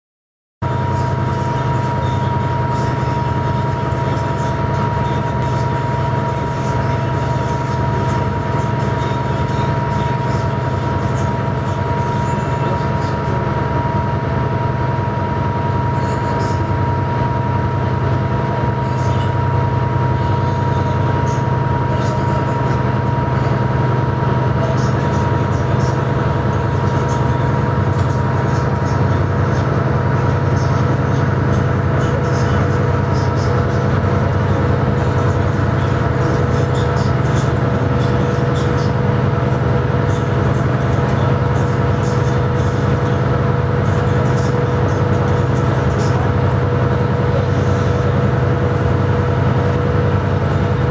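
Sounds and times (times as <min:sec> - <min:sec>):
ferry engines droning: 0:00.6 - 0:50.9
thin steady whine: 0:00.6 - 0:50.9.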